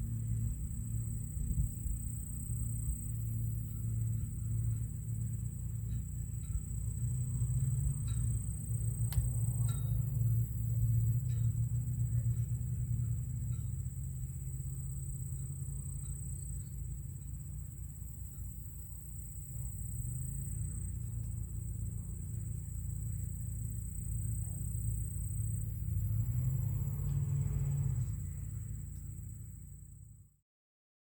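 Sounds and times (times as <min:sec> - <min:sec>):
steady high-pitched whine: 0:00.0 - 0:26.2.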